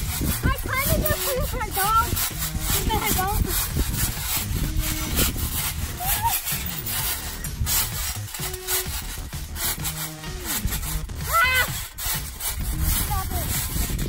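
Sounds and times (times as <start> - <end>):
trampoline springs squeaking: 0.0 - 14.0.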